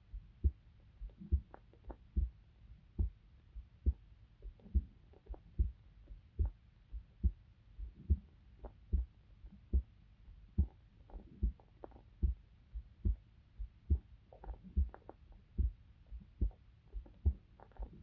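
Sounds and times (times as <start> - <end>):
heartbeat thumps: 0.0 - 18.0.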